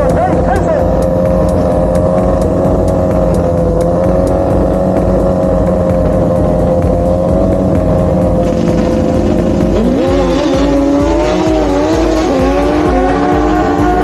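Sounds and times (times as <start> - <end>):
motorcycle engine at high revs: 0.0 - 14.0.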